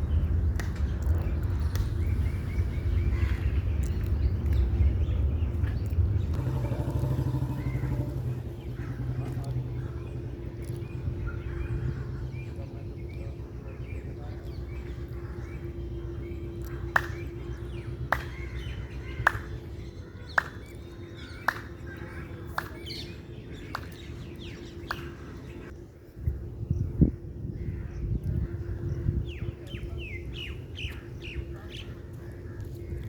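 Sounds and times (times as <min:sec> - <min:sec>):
birds chirping: 0:00.0 - 0:33.0
steady low hum: 0:00.0 - 0:33.0.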